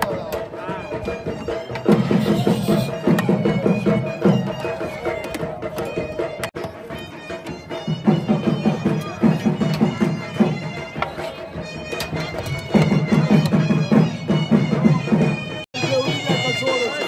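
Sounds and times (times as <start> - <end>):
reedy wind instrument melody: 0.0 - 17.0.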